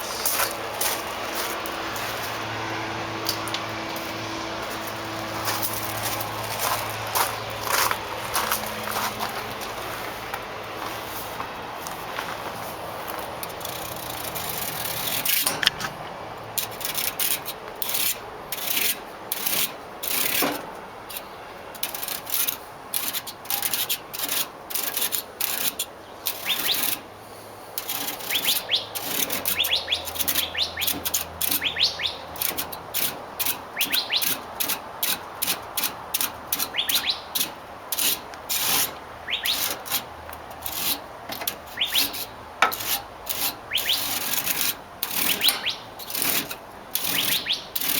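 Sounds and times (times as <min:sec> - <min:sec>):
comb rasping through metal fins: 0:00.0 - 0:47.9.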